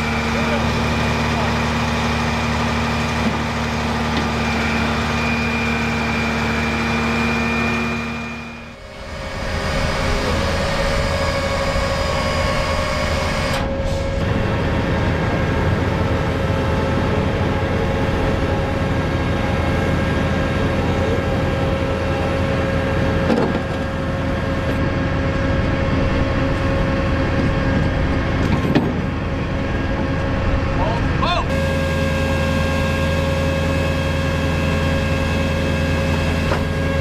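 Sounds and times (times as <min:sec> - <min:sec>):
diesel engine running: 0:00.0 - 0:37.0
steady whine: 0:00.0 - 0:37.0.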